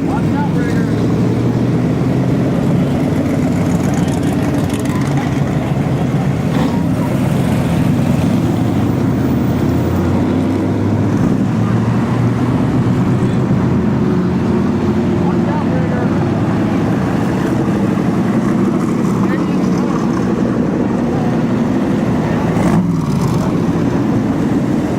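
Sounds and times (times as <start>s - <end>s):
cars driving slowly past: 0.0s - 24.9s.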